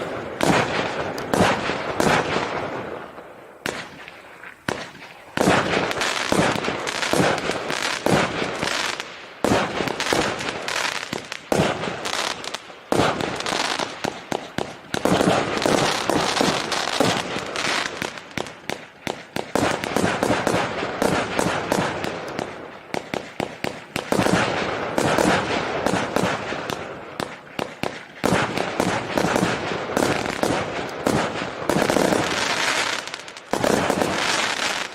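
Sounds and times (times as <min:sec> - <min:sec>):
firework cake shots firing: 0:00.0 - 0:34.9.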